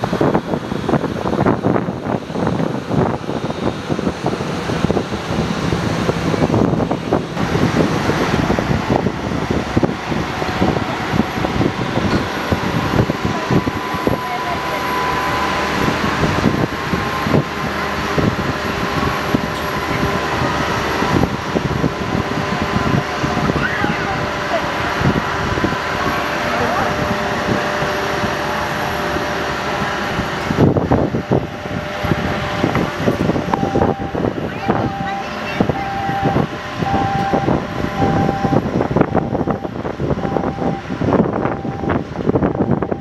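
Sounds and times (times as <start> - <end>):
jet engines running: 0.0 - 43.0
thin engine whine: 0.0 - 43.0
wind buffeting microphone: 0.0 - 43.0.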